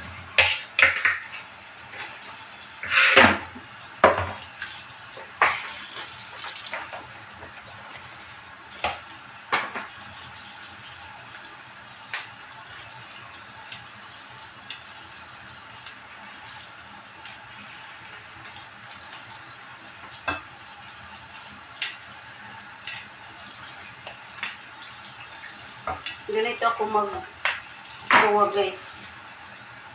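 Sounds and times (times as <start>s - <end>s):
tap water running into basin: 0.0s - 29.9s.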